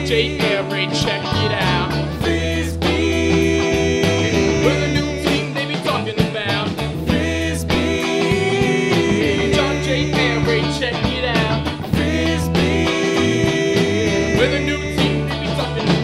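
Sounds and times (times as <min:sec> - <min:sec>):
rock band music: 0:00.0 - 0:16.0.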